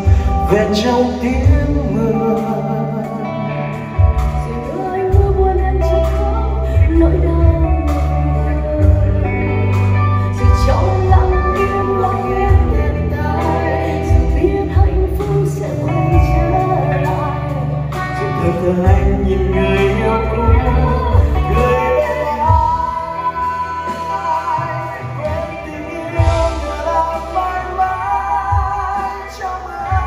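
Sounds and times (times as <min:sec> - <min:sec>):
band with steady bass: 0:00.0 - 0:30.0
man and woman singing duet: 0:00.0 - 0:30.0.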